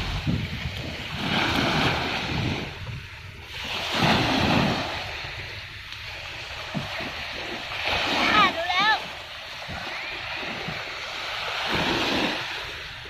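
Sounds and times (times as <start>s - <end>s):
sea waves washing on beach: 0.0s - 13.0s
wind buffeting microphone: 0.0s - 13.0s.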